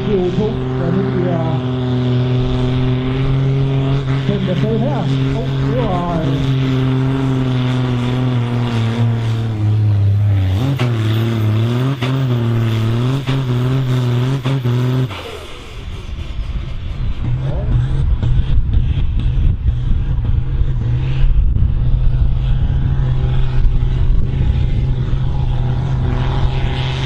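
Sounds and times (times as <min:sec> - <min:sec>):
rough engine rumble: 0:00.0 - 0:27.0
tractor diesel engine labouring: 0:00.0 - 0:27.0.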